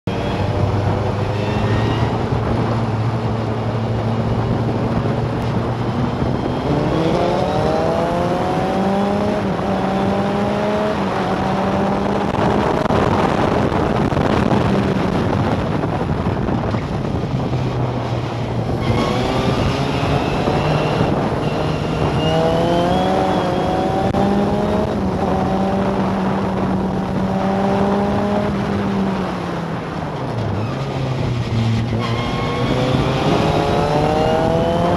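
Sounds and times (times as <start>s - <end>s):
racing car engine revving: 0.1s - 17.2s, 18.0s - 34.9s
wind rushing: 0.1s - 34.9s.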